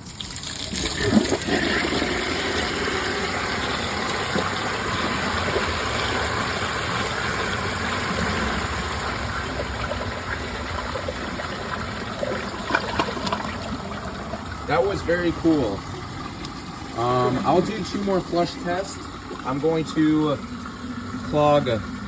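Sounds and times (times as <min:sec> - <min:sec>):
toilet flushing: 0:00.0 - 0:22.0.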